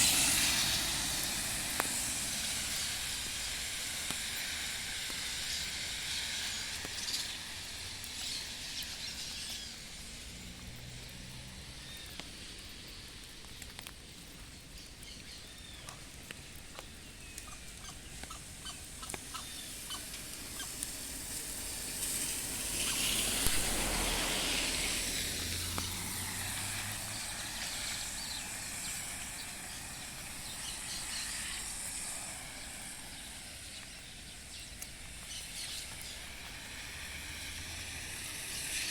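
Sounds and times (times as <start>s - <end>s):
birds chirping: 0.0s - 24.4s, 25.6s - 37.5s
rain hissing: 0.0s - 38.9s.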